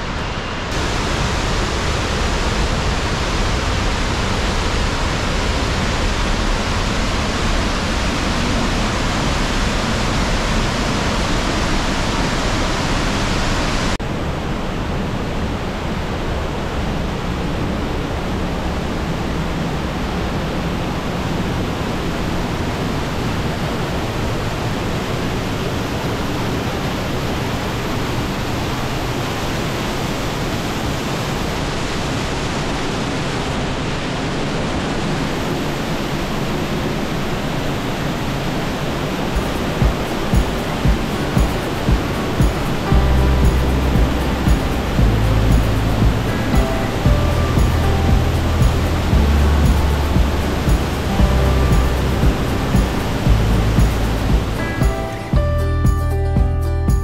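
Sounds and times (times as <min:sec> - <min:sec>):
waterfall roaring: 0:00.0 - 0:55.4.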